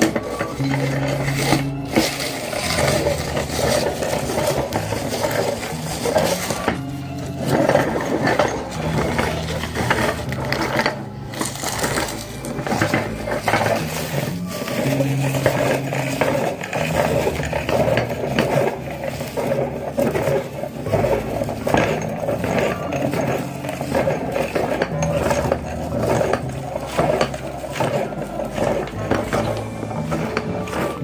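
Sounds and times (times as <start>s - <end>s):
meat grinder crunching: 0.0s - 31.0s.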